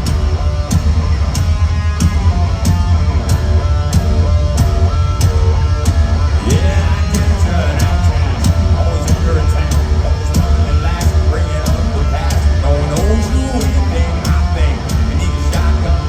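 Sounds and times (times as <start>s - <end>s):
bass guitar: 0.0s - 16.0s
drum beat: 0.0s - 16.0s
electric guitars: 0.0s - 16.0s.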